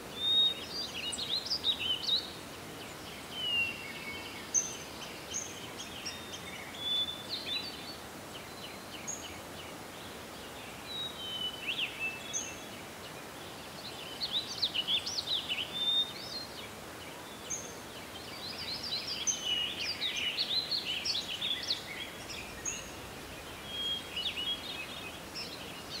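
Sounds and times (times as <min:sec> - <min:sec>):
outdoor ambient hiss: 0:00.0 - 0:26.0
small birds chirping: 0:00.0 - 0:26.0.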